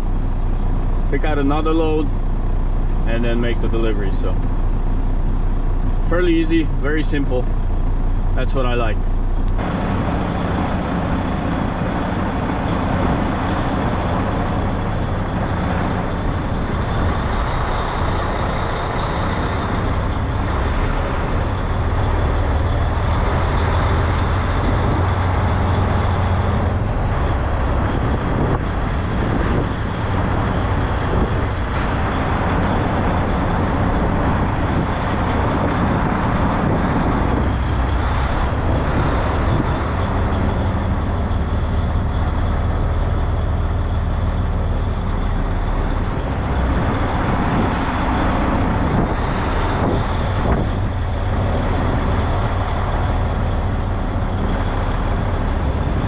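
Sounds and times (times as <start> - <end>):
road noise rumble: 0.0 - 56.0
truck diesel engine drone: 0.0 - 56.0.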